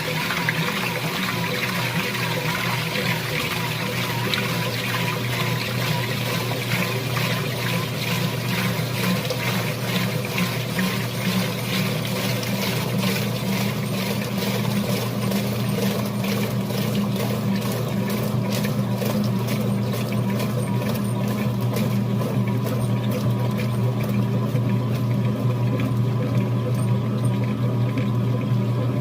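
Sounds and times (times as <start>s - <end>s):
washing machine motor hum: 0.0s - 29.0s
water draining and splashing: 0.0s - 29.0s.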